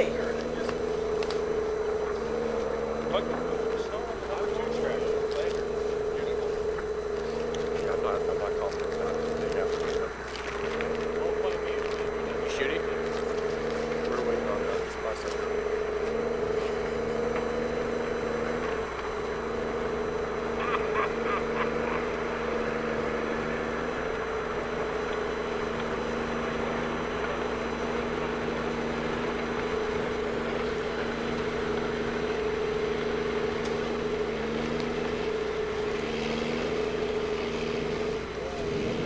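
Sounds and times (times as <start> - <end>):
large engine droning: 0.0 - 39.0.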